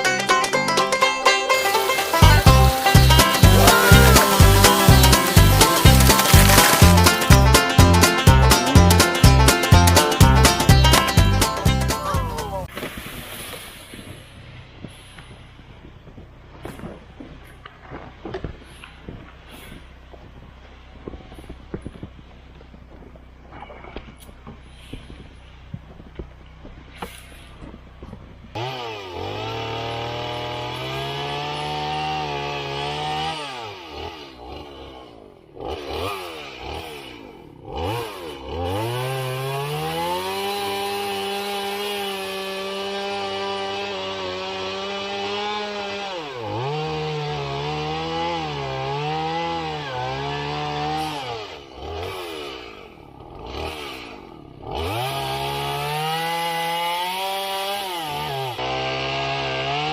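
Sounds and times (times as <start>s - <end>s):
chainsaw cutting wood: 0.0s - 14.2s, 22.9s - 59.9s.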